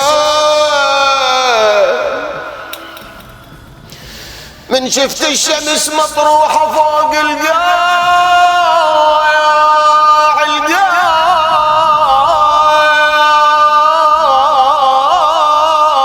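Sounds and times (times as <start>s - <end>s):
man chanting a lament: 0.0s - 3.2s, 4.7s - 16.0s.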